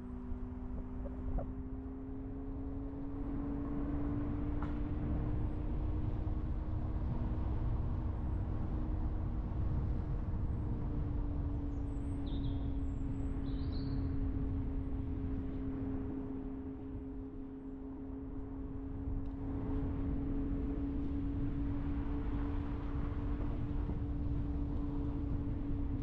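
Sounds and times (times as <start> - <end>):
car engine drone: 0.0 - 26.0
road rumble: 0.0 - 26.0.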